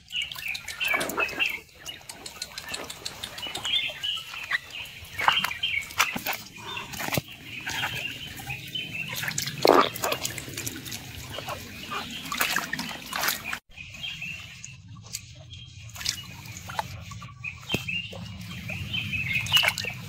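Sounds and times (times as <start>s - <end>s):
animal splashing through water: 0.0s - 13.6s, 15.8s - 20.0s
trickling water: 0.0s - 20.0s.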